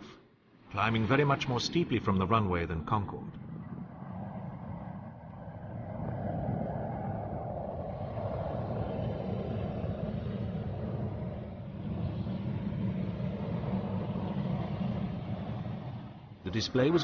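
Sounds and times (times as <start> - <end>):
jet engines roaring: 0.7 - 17.0.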